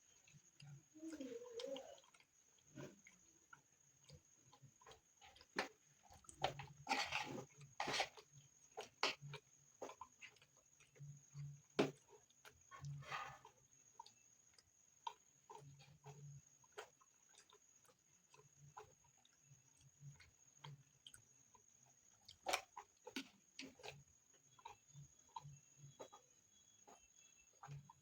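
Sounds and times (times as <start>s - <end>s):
mouth chewing food: 0.0s - 28.0s
soft wet smacks: 0.0s - 28.0s.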